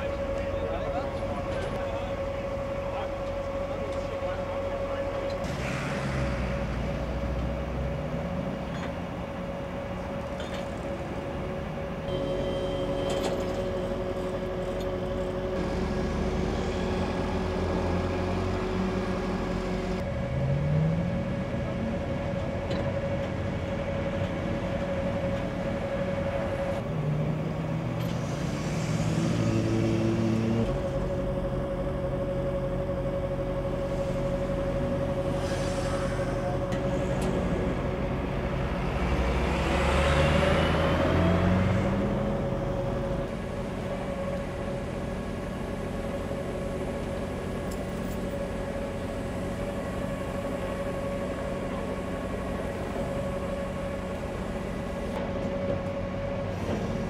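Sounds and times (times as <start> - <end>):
diesel truck engines revving: 0.0 - 57.0
motorway traffic hum: 0.0 - 57.0.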